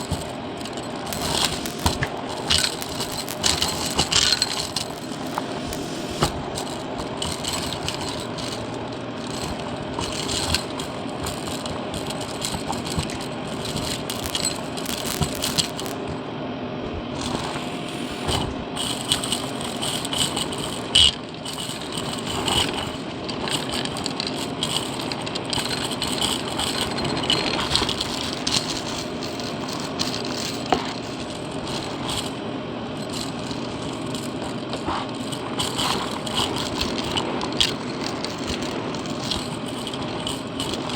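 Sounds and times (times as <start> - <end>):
debris rattling through nozzle: 0.0 - 16.0, 17.2 - 40.9
vacuum cleaner running: 0.0 - 40.9.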